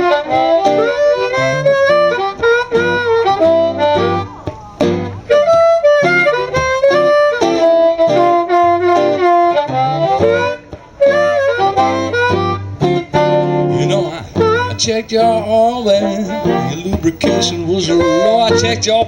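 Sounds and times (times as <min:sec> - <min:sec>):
blues harmonica solo: 0:00.0 - 0:19.0.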